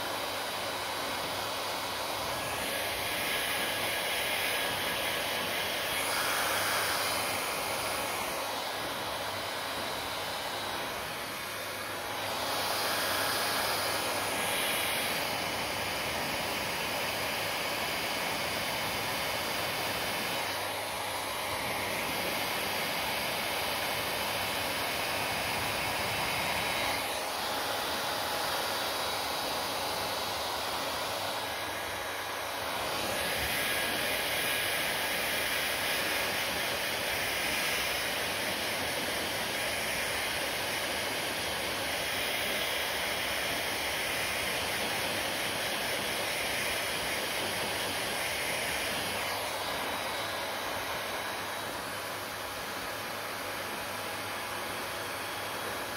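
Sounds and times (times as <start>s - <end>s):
hair dryer blowing: 0.0s - 55.9s.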